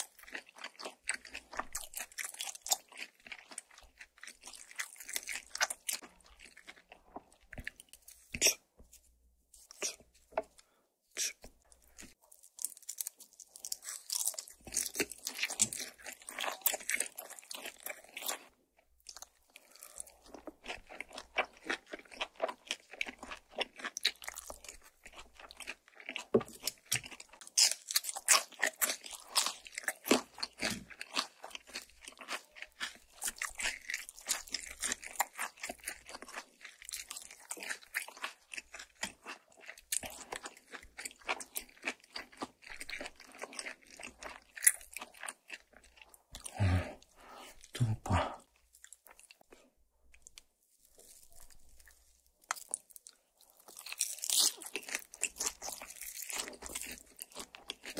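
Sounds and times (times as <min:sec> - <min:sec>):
crunchy chewing: 0:00.0 - 0:08.7, 0:09.6 - 0:57.9.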